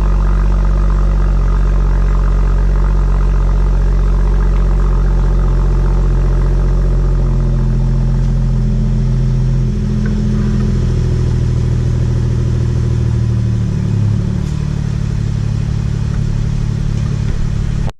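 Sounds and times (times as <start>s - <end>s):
car exhaust note: 0.0s - 17.9s.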